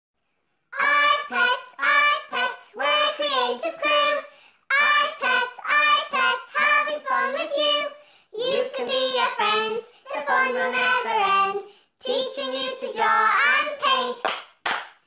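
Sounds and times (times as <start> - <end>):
high voice singing: 0.8 - 14.3.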